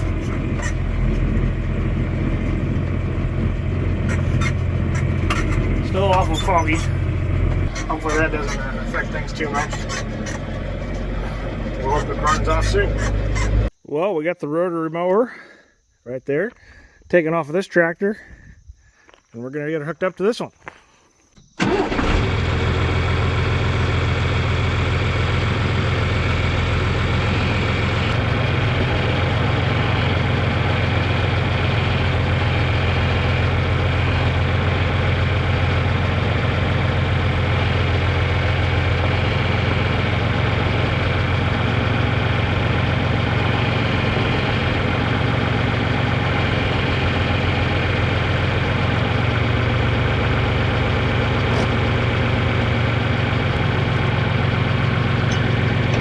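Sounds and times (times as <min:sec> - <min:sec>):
tractor engine idling: 0:00.0 - 0:13.7, 0:21.6 - 0:56.0.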